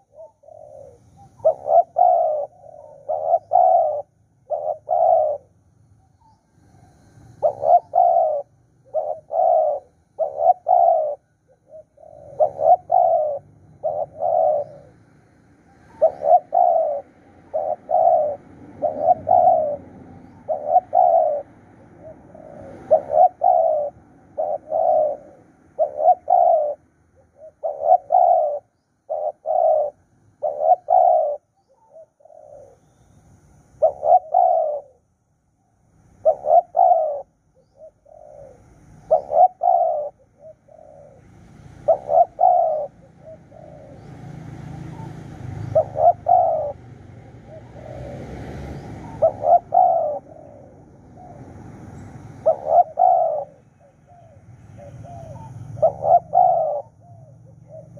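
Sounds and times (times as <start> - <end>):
dove cooing: 0.0 - 33.0, 33.7 - 35.1, 36.1 - 57.9.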